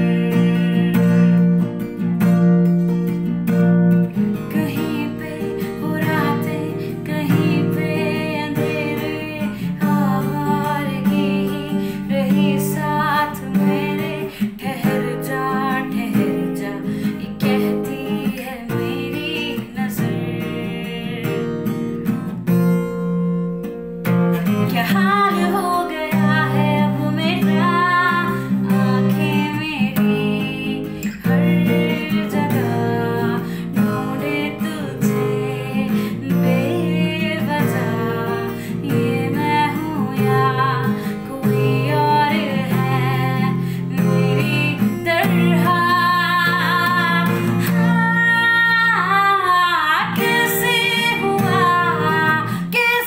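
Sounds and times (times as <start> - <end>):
woman singing: 0.0 - 2.4, 3.5 - 23.0, 24.0 - 53.0
acoustic guitar strumming: 0.0 - 53.0.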